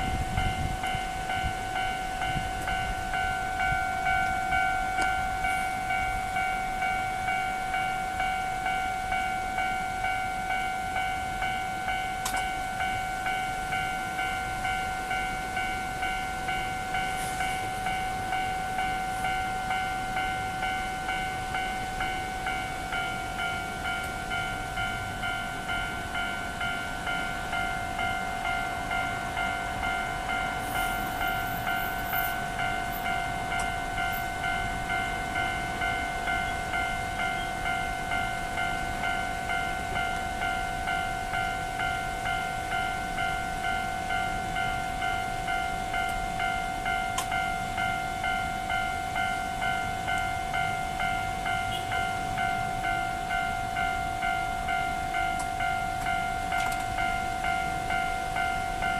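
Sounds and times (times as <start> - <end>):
level-crossing electronic bell: 0.0 - 58.9.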